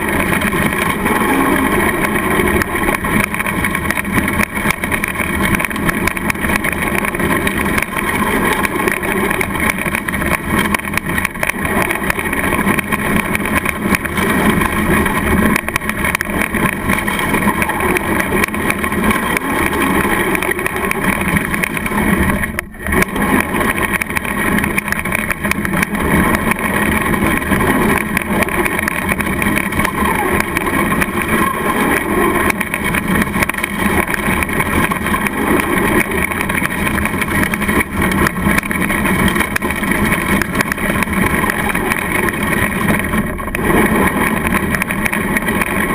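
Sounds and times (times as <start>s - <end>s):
gravel crunching under tyres: 0.0s - 45.9s
rc truck motor: 0.0s - 45.9s.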